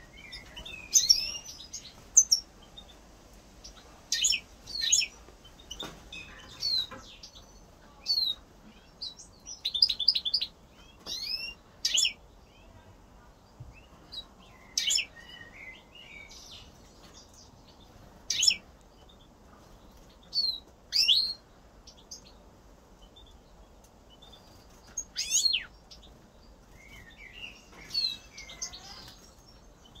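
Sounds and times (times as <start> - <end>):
goldfinch chirping and twittering: 0.0 - 3.0, 3.6 - 12.8, 13.8 - 22.4, 23.0 - 30.0.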